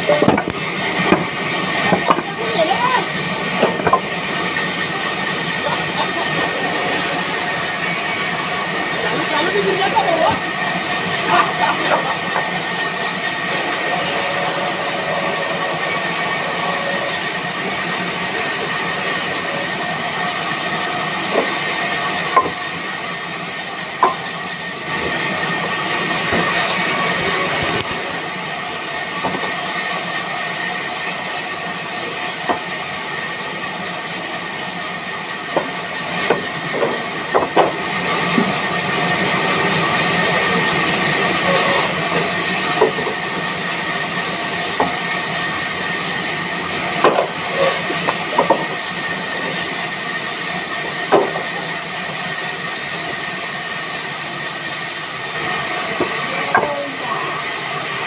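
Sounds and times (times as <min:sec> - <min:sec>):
band saw whining: 0:00.0 - 0:58.0.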